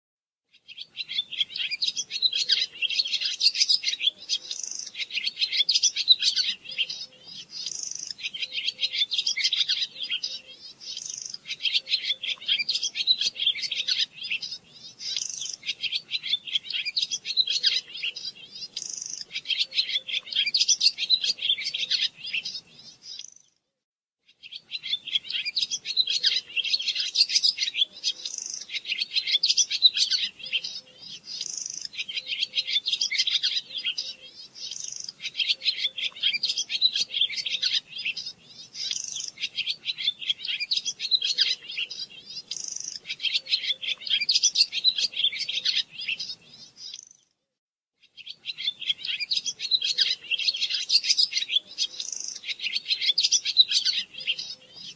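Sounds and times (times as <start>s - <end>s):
songbird twittering and trilling: 0.5s - 23.6s, 24.2s - 47.4s, 48.0s - 54.9s.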